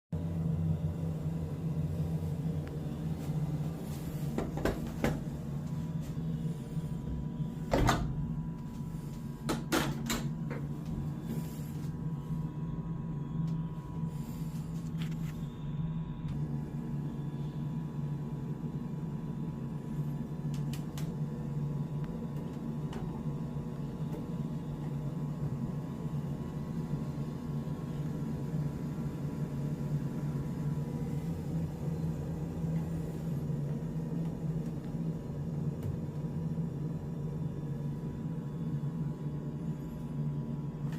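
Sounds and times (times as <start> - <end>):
washing machine humming: 0.1 - 40.9.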